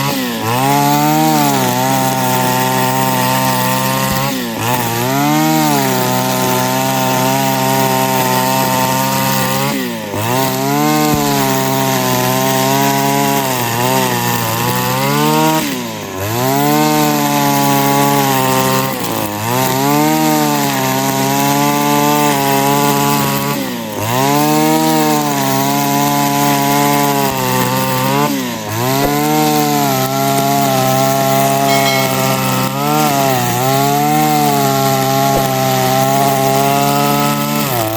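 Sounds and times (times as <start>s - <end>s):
brush cutter engine at high revs: 0.0s - 37.9s.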